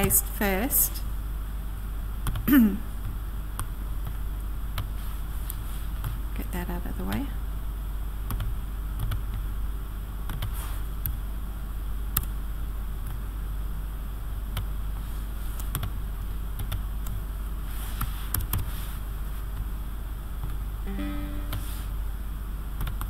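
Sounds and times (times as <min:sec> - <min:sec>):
low electrical hum and hiss: 0:00.0 - 0:23.0.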